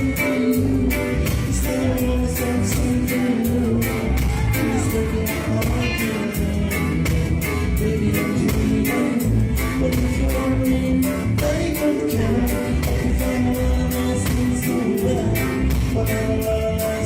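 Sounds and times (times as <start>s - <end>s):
live reggae band playing: 0.0s - 17.0s.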